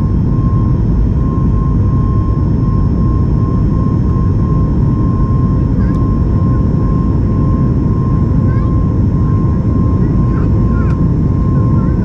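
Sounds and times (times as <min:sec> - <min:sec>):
constant whine: 0:00.0 - 0:12.0
jet engine cabin roar: 0:00.0 - 0:12.0.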